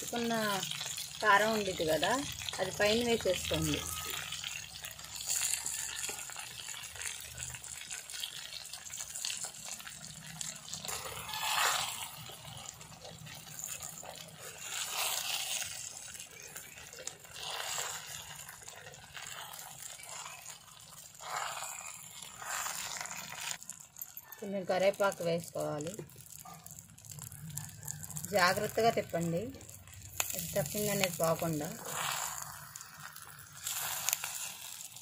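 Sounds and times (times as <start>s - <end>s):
spatula stirring and scraping: 0.0s - 24.3s, 25.1s - 35.0s
vegetables sizzling in hot oil: 0.0s - 35.0s.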